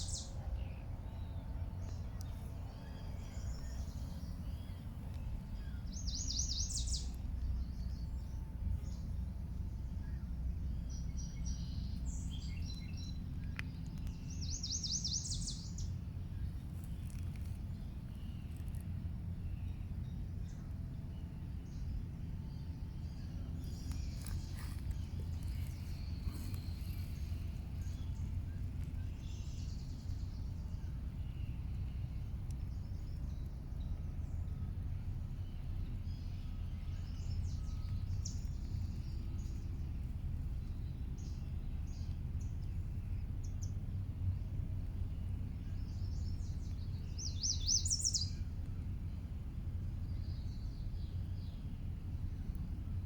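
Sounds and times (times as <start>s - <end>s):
songbirds chirping: 0.0s - 53.0s
steady low rumble: 0.0s - 53.0s.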